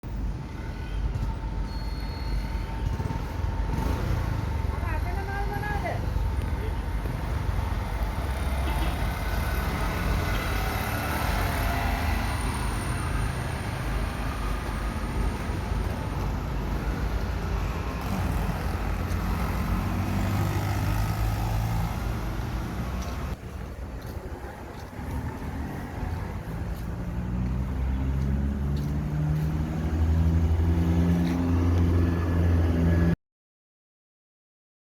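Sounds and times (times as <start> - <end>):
passing motor vehicles: 0.1 - 33.2
nearby vehicle engine: 2.7 - 33.2.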